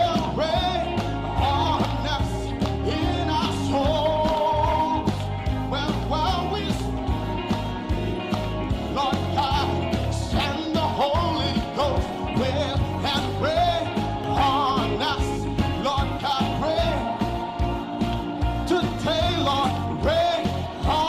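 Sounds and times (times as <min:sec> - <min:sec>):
band playing upbeat instrumental: 0:00.0 - 0:21.0.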